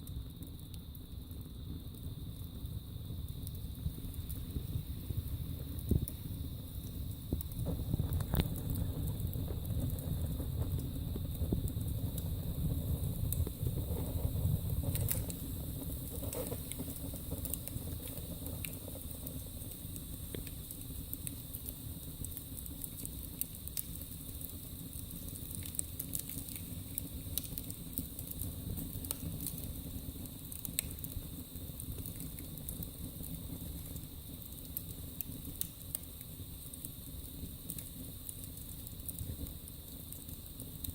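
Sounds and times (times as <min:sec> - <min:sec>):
wood crackling and popping: 0:00.0 - 0:40.9
fire rumbling: 0:00.1 - 0:40.9.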